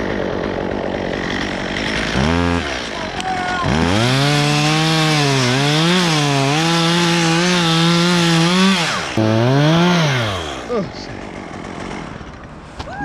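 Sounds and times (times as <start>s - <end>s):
chainsaw cutting wood: 0.0s - 12.6s.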